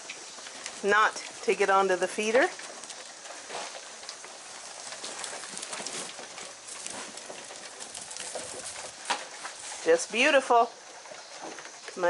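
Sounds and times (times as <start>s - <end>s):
goats crunching grain: 0.0s - 12.0s.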